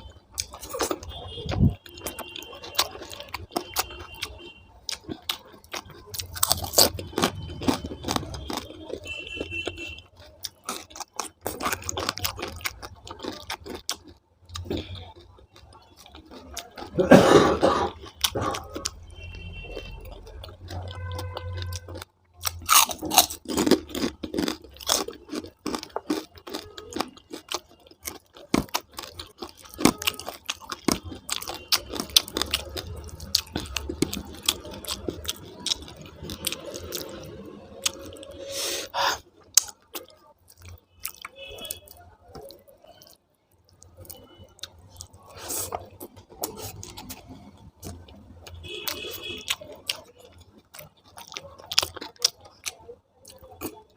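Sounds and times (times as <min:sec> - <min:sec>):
wet chewing and smacking: 0:00.0 - 0:17.0, 0:17.8 - 0:38.4, 0:39.4 - 0:53.9.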